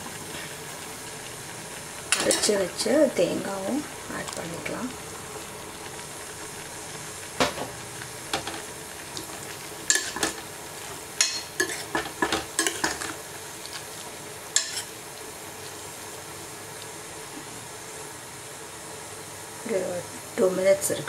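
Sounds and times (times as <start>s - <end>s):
low hiss from cooking pot: 0.0s - 21.0s.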